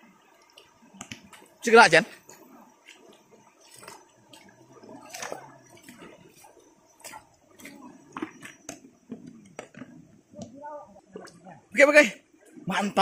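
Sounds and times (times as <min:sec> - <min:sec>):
river water splashing and dripping: 0:00.0 - 0:13.0.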